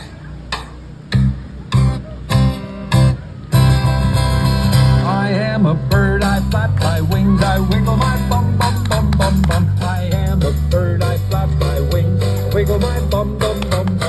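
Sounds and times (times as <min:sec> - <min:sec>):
acoustic guitar strumming: 0:01.2 - 0:14.0.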